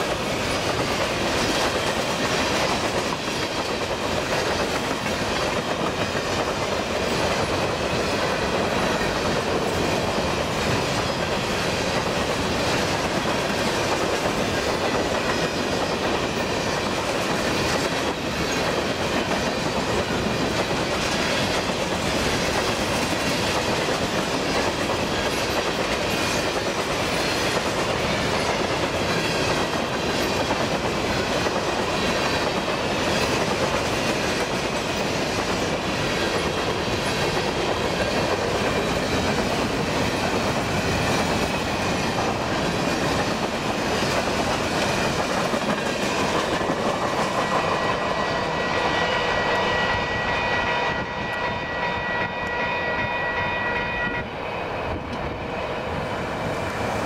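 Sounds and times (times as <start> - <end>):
train wheels rumbling and clattering: 0.0 - 57.0.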